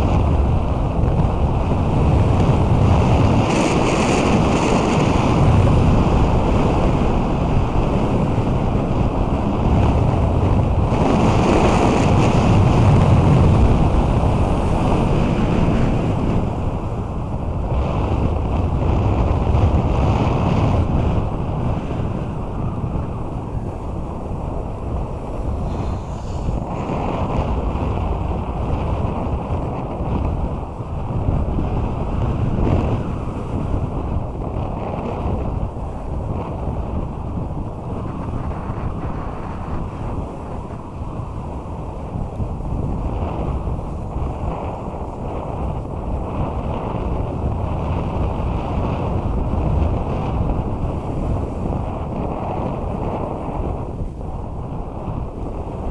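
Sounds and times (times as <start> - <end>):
snowboard scraping over snow: 0.0 - 55.9
wind buffeting microphone: 0.0 - 55.9.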